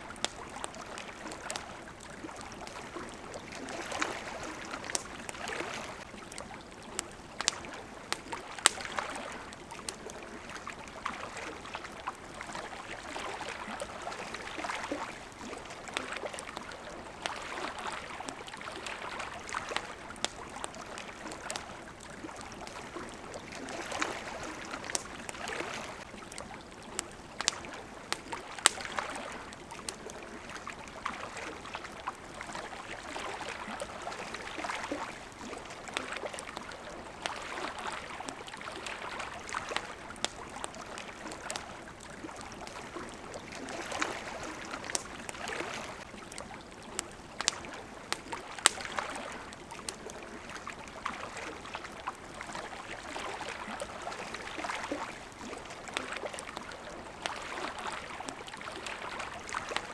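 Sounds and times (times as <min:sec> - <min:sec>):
campfire crackling: 0:00.0 - 0:59.9
small waves lapping: 0:00.0 - 0:59.9.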